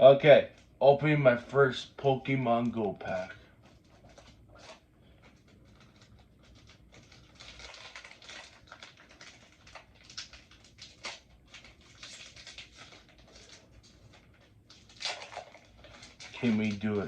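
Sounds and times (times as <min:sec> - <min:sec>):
foil pack crinkling: 0:02.7 - 0:17.0.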